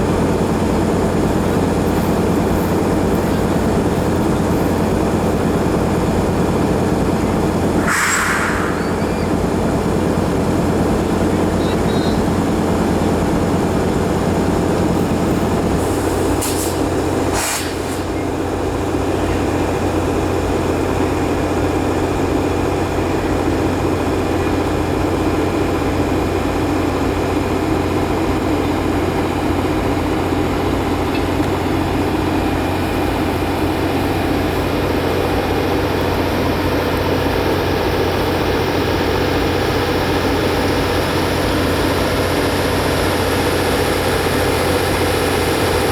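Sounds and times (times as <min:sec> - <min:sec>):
diesel train locomotive running: 0:00.0 - 0:45.9.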